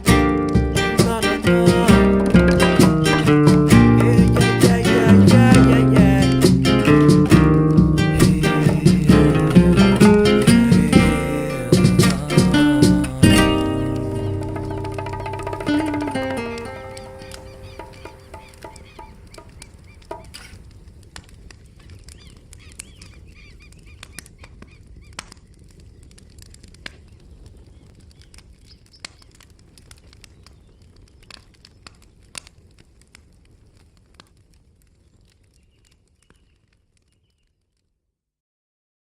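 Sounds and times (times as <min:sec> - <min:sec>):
low fire rumble: 0:00.0 - 0:37.7
campfire crackling and popping: 0:00.0 - 0:38.1.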